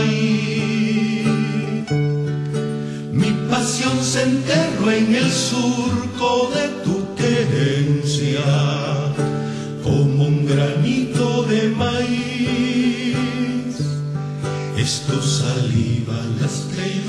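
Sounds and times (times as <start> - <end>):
song with singing voice: 0.0 - 17.0.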